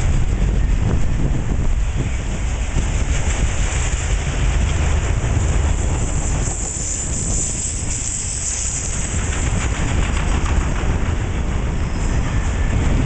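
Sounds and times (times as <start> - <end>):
freight train wheels rumbling: 0.0 - 13.0
wind buffeting microphone: 0.0 - 13.0.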